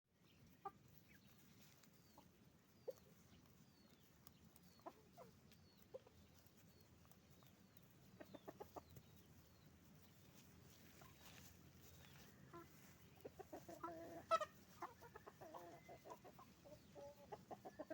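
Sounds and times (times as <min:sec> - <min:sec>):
hens clucking: 0:00.2 - 0:17.9.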